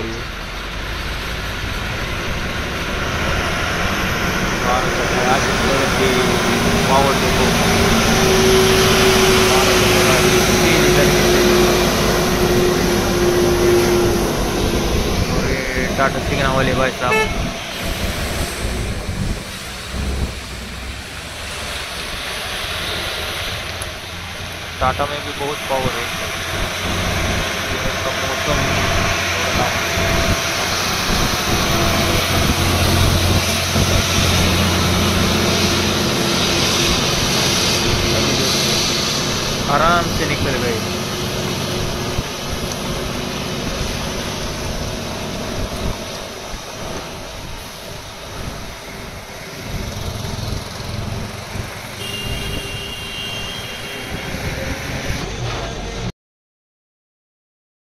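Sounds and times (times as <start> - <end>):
steady whine: 0.0 - 56.0
truck diesel engine pulling hard: 0.0 - 56.1.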